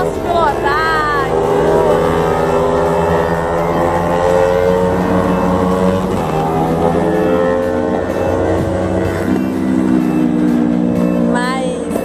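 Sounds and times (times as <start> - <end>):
racing motorcycle engines revving: 0.0 - 12.0.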